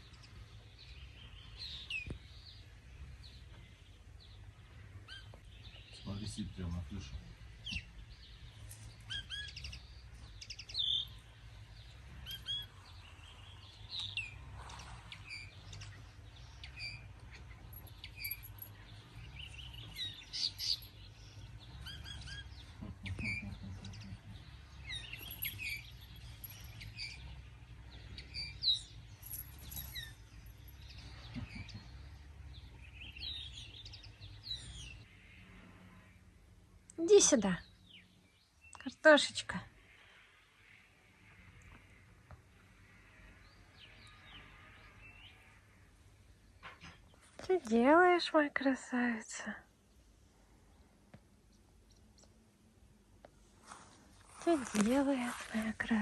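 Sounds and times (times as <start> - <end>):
songbirds chirping and singing: 0.0 - 36.3, 37.0 - 56.0.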